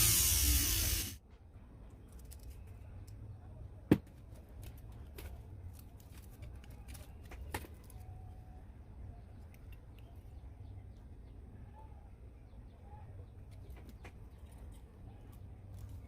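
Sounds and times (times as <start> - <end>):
faint low hum: 0.2 - 16.0.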